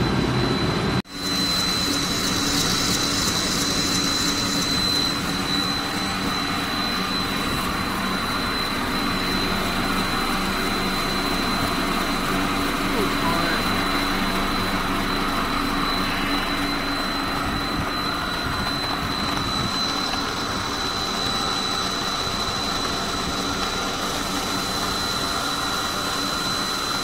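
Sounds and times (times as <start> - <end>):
high whine: 0.0 - 27.0
machinery drone: 0.0 - 27.0.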